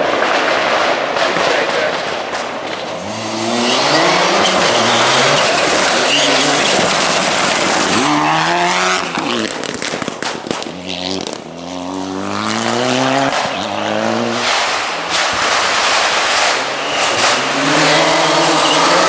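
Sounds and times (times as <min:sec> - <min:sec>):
anti-lag bangs crackling: 0:00.0 - 0:11.6, 0:12.5 - 0:19.0
rally car engine revving: 0:00.0 - 0:19.0.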